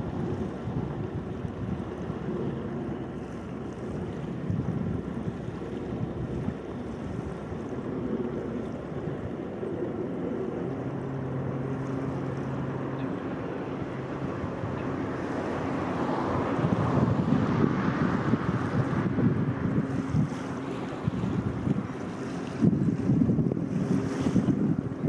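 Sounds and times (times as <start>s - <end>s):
low engine hum: 0.0s - 25.0s
waves lapping at shore: 0.0s - 25.0s
wind: 0.0s - 25.0s
wind buffeting microphone: 0.0s - 25.0s.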